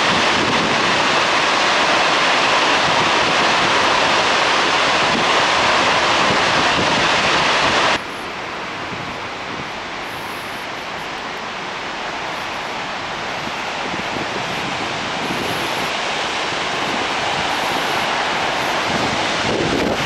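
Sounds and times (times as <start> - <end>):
water rushing from dam outlets: 0.0 - 20.0.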